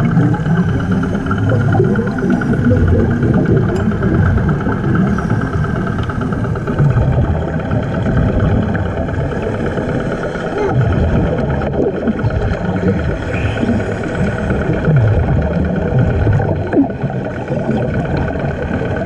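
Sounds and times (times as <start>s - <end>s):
muffled engine rumble underwater: 0.0s - 19.0s.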